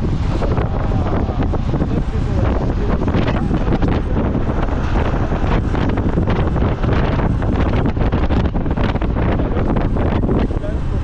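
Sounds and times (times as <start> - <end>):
traffic noise: 0.0 - 11.0
wind buffeting microphone: 0.0 - 11.0.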